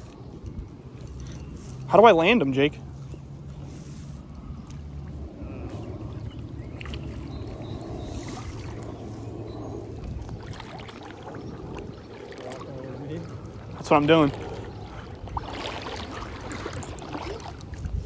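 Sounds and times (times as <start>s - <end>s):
river water splashing: 0.0s - 18.0s
wind rumble on microphone: 0.0s - 18.0s.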